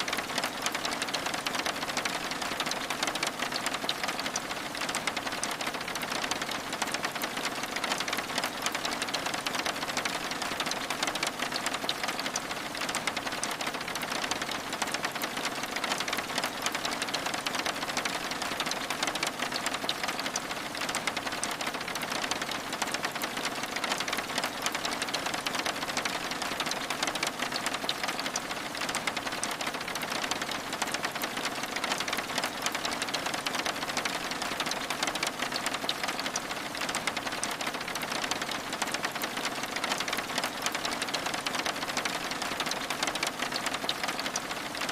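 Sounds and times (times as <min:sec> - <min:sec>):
rain on window glass: 0:00.0 - 0:44.9.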